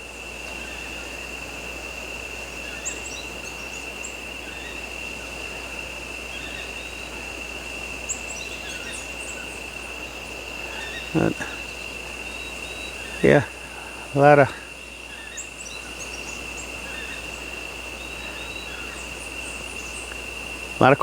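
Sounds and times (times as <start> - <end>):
constant hiss: 0.0 - 21.0
high-pitched insect drone: 0.0 - 21.0.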